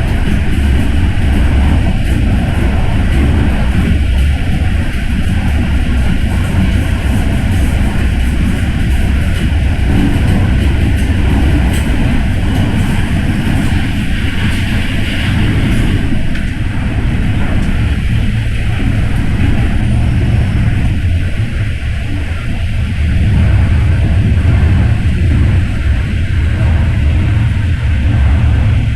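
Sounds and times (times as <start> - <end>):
train rumbling on rails: 0.0 - 28.9.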